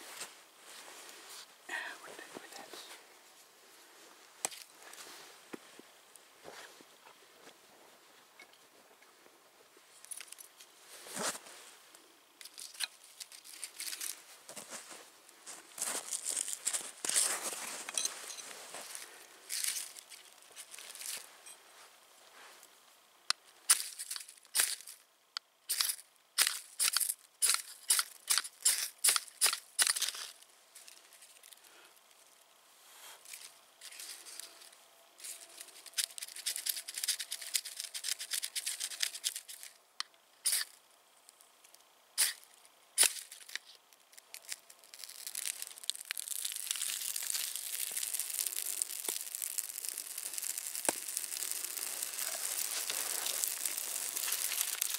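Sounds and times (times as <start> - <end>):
bark burning with hissing crackle: 0.0 - 54.9.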